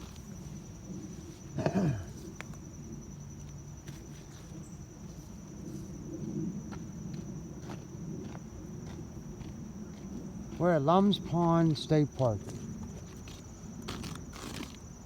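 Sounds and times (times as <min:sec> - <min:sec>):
crickets trilling: 0:00.0 - 0:15.0
low outdoor hum: 0:00.0 - 0:15.0.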